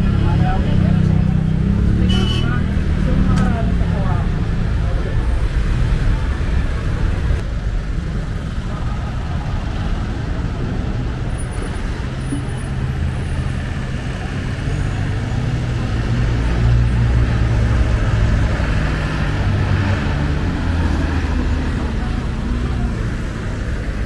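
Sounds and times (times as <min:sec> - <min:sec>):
road traffic: 0:00.0 - 0:24.0
vehicle engines rumbling: 0:00.0 - 0:24.0.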